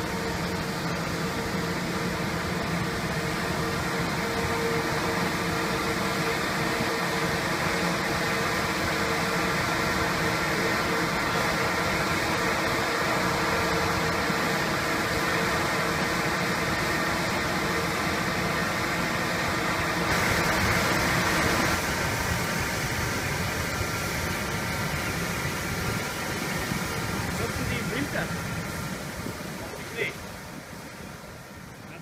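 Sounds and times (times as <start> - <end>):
hum of steady tones: 0.0 - 32.0
mist cannon blowing and spraying: 0.0 - 32.0.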